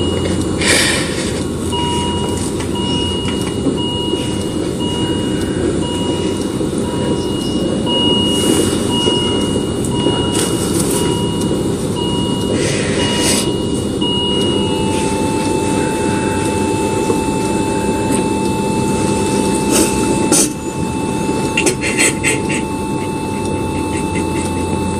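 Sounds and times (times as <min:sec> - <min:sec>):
flatline alarm tone: 0:00.0 - 0:24.9
heart monitor beeping: 0:00.0 - 0:24.9.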